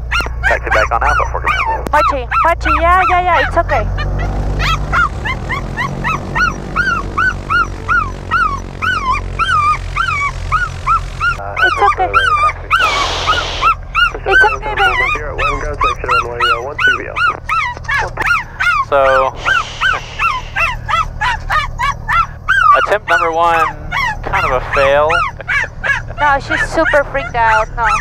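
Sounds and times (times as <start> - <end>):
dog crying and yelping: 0.0 - 28.0
plane engine drone: 0.0 - 28.0.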